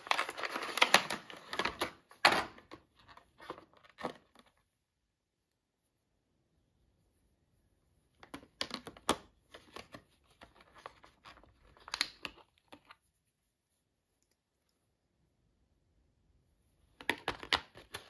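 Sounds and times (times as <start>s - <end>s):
crackles and rustles of handling: 0.0s - 15.2s, 16.5s - 18.0s.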